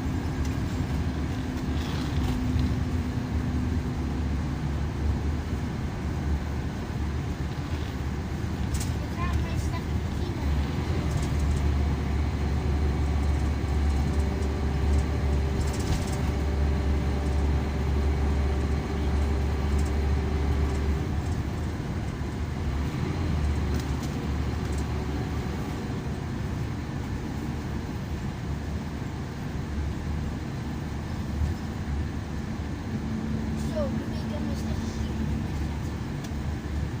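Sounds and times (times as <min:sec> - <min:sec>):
bus engine drone: 0:00.0 - 0:37.0
road and tyre noise: 0:00.0 - 0:37.0.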